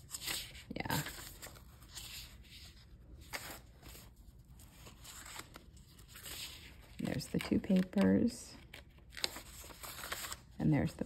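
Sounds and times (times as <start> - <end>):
paper sheets rustling: 0.0 - 11.0.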